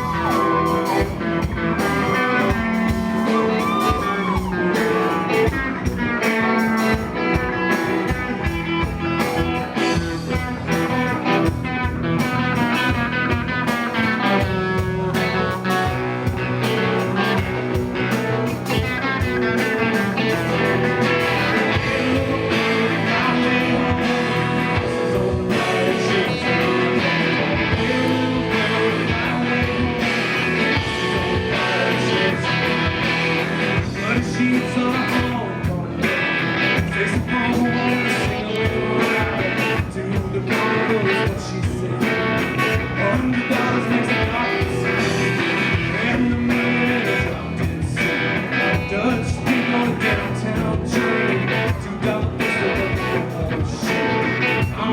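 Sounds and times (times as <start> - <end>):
live rock band playing: 0.0 - 54.9
person singing: 0.0 - 54.9.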